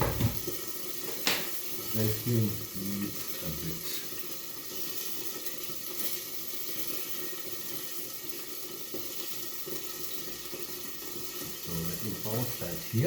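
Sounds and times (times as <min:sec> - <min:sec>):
sausages sizzling in a frying pan: 0:00.0 - 0:13.0.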